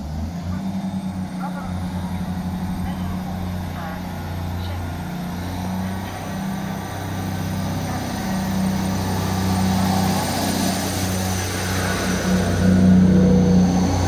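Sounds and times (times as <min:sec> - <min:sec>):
diesel train engines humming: 0:00.0 - 0:14.0
wheel and rail noise: 0:00.0 - 0:14.0.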